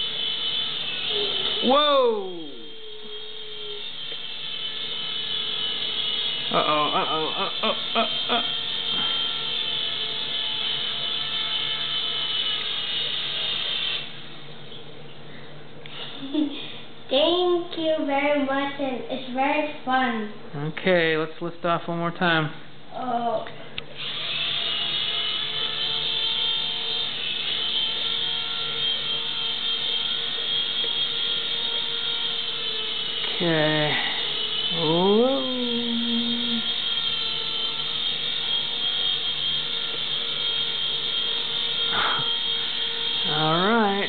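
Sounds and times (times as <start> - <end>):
electric motors whining: 0.0 - 17.3, 23.1 - 44.0.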